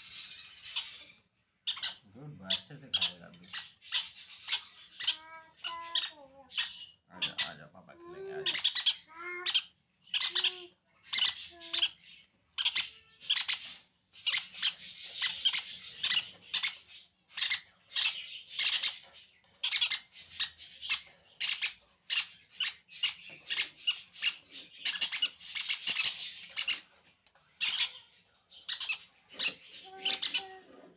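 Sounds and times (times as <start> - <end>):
parrot chicks begging calls: 0.0 - 30.9.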